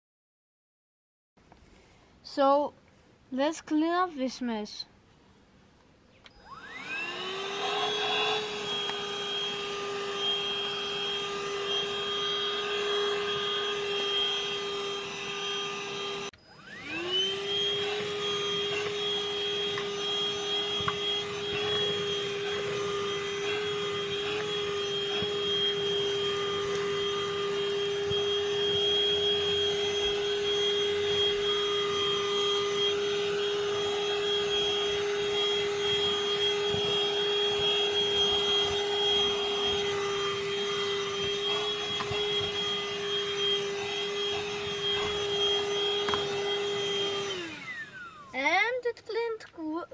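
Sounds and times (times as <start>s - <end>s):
handheld vacuum whining: 6.3s - 48.6s.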